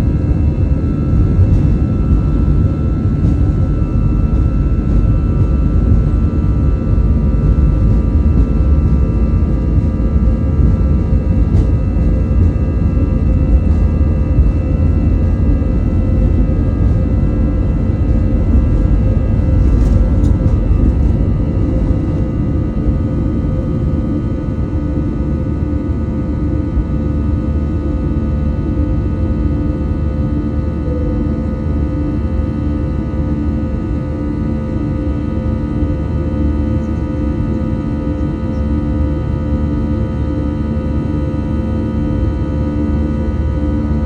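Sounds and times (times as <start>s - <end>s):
jet engines at takeoff power: 0.0s - 44.0s.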